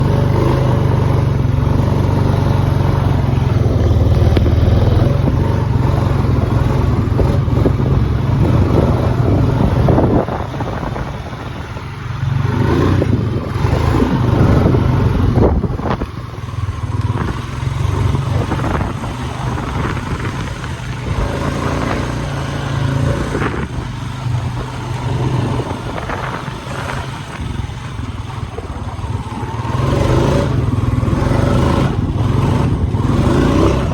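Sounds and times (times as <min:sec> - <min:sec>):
vehicle engine rumble: 0:00.0 - 0:33.9.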